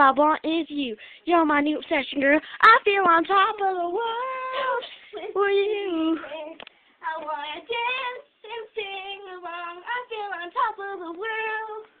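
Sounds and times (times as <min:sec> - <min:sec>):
girl singing: 0:00.0 - 0:12.0.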